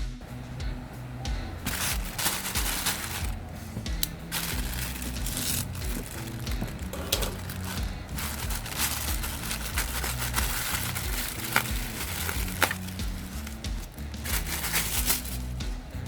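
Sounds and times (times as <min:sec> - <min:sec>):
background music with bass line: 0:00.0 - 0:16.0
crinkling packaging handling: 0:01.4 - 0:16.0.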